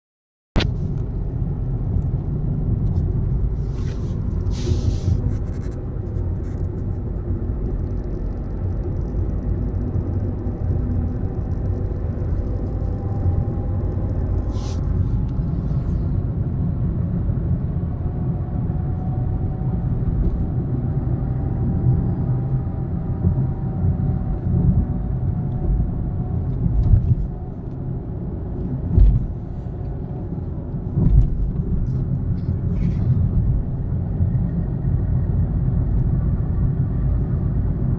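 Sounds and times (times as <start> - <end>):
road and engine rumble: 0.6 - 37.9.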